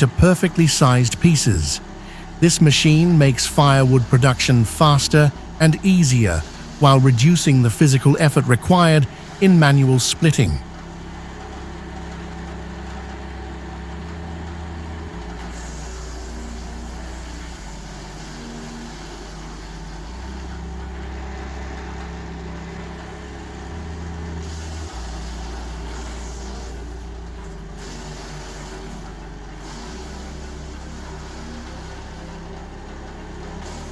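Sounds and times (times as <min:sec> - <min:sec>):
log splitter engine drone: 0:00.0 - 0:33.9.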